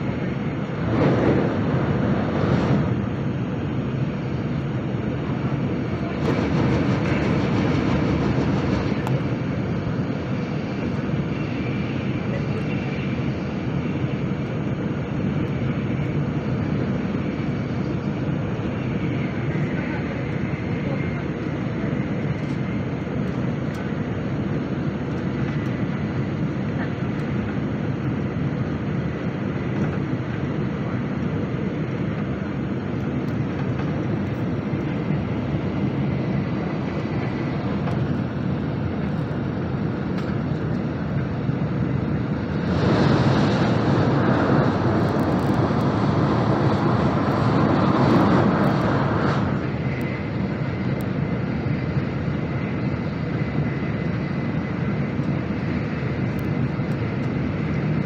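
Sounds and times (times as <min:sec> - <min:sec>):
high speed train rumble: 0:00.0 - 0:58.0.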